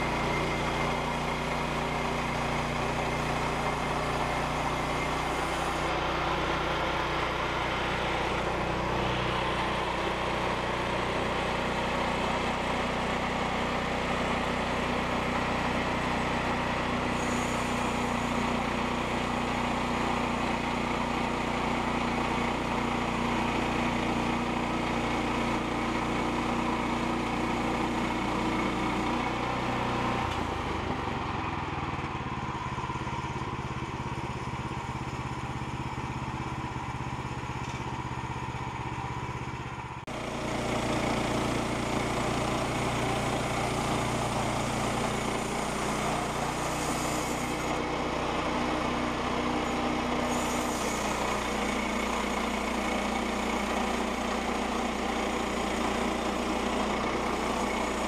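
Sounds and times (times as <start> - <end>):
band saw cutting log: 0.0 - 32.1, 40.1 - 58.0
small gasoline engine running: 0.0 - 58.0.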